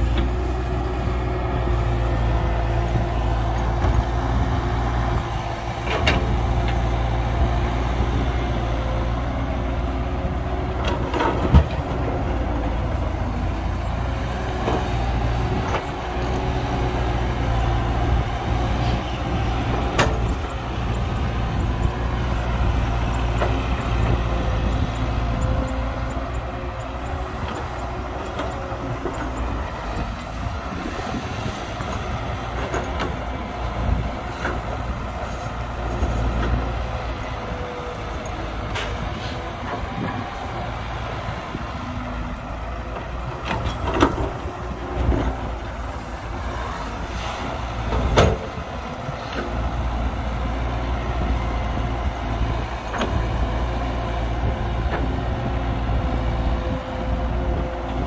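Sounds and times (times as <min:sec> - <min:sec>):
diesel machinery engine rumble: 0:00.0 - 0:58.0.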